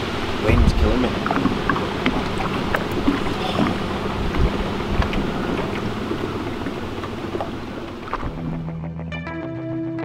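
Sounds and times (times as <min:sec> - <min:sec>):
wind blowing across microphone: 0:00.0 - 0:08.7
rippling water: 0:00.0 - 0:08.8.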